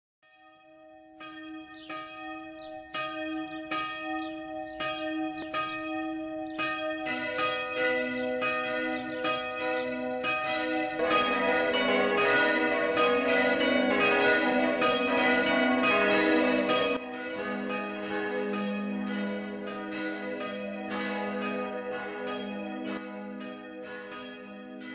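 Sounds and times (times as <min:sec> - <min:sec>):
church bells ringing: 0:00.3 - 0:24.9.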